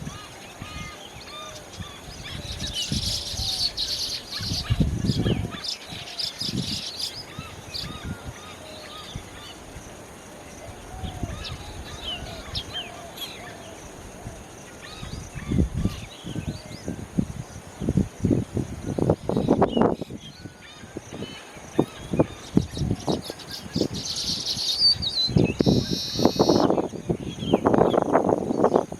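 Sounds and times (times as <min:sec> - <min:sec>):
birds chirping and chattering: 0:00.0 - 0:16.9, 0:19.0 - 0:28.9.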